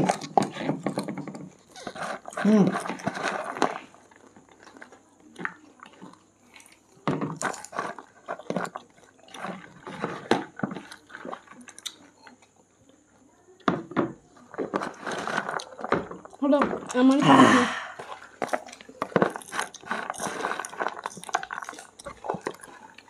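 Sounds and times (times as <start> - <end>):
people crunching popcorn: 0.0 - 23.0.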